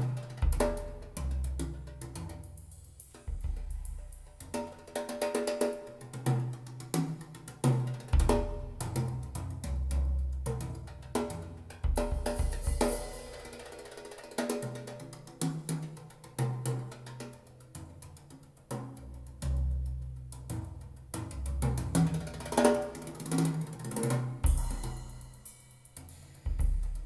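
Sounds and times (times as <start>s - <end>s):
snare and bass drum: 0.0s - 17.4s, 18.7s - 27.0s.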